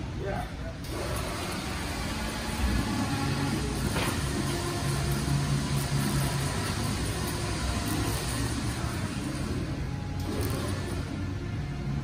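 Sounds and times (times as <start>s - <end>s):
motor humming: 0.8s - 12.0s.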